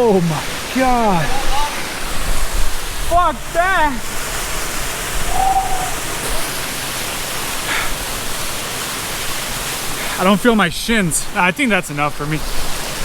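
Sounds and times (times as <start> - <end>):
waterfall hissing: 0.0 - 13.0.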